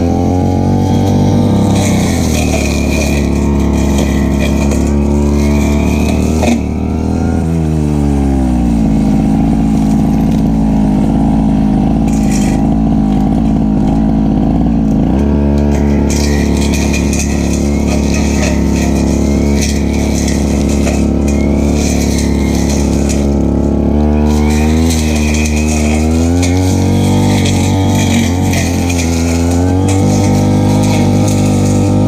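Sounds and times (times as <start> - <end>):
brushcutter cutting grass: 0.0 - 32.0.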